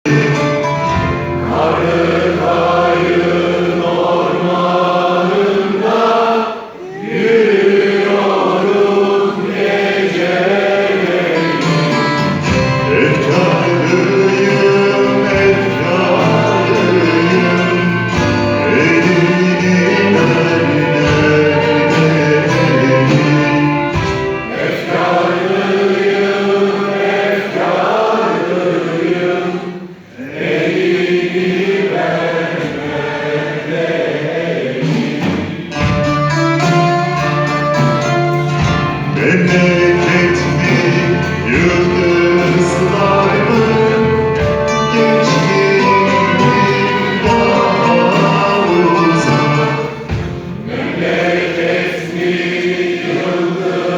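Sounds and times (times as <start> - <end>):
orchestra and choir performing: 0.1 - 53.9.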